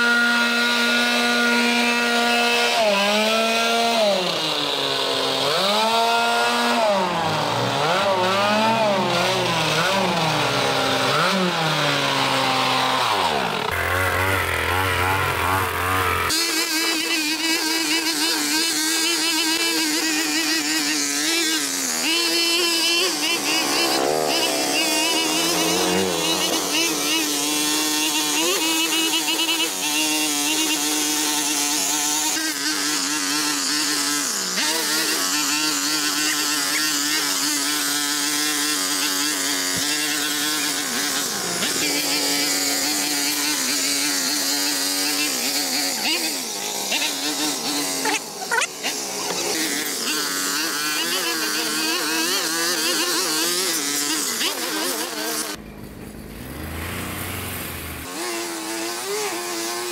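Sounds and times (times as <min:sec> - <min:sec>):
petrol garden tool buzzing: 0:00.0 - 0:59.9.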